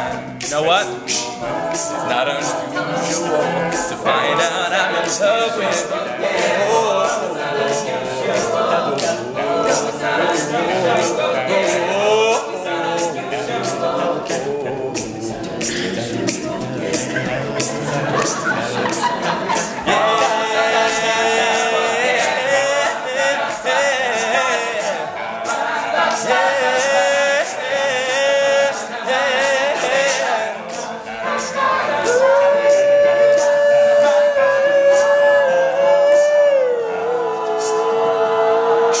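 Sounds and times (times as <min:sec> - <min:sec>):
male a cappella group singing: 0:00.0 - 0:39.0.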